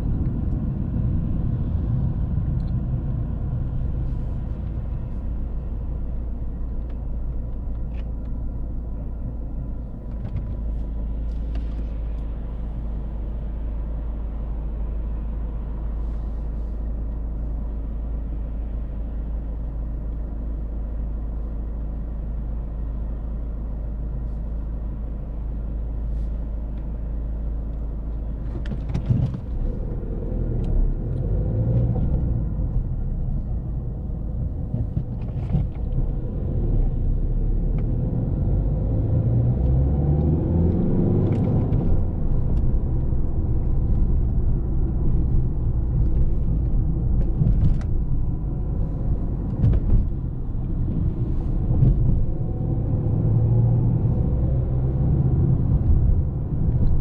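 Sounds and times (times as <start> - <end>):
diesel car engine: 0.0 - 57.0
road rumble: 0.0 - 57.0.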